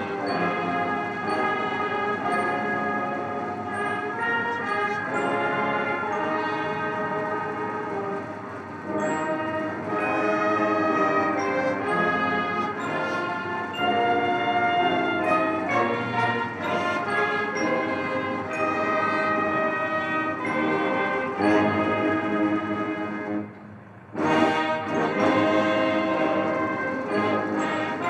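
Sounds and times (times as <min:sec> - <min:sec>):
brass band playing ceremonial music: 0:00.0 - 0:28.0.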